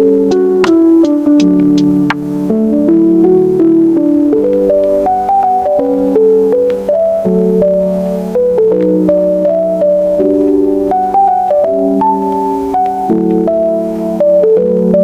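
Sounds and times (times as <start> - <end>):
electronic keyboard music: 0.0 - 15.0.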